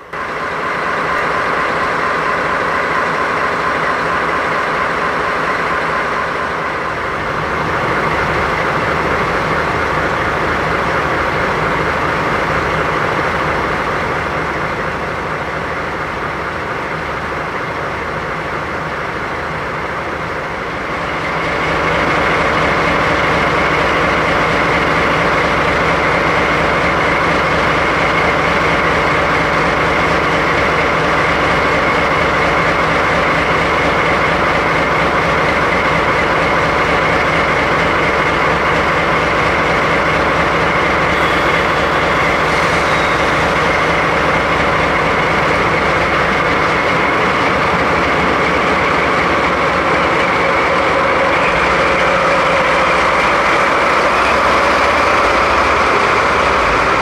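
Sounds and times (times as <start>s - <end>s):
locomotive diesel engines idling: 0.0s - 57.0s.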